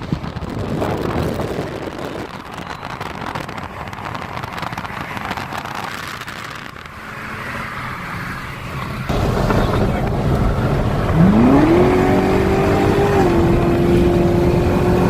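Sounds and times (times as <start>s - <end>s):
wind noise on microphone: 0.0s - 7.4s, 8.8s - 15.0s
car engine droning: 0.0s - 15.0s.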